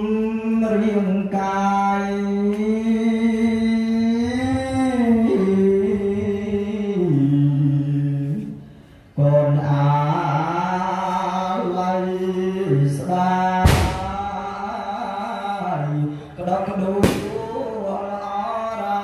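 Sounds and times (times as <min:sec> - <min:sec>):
person chanting in long held notes: 0:00.0 - 0:19.0.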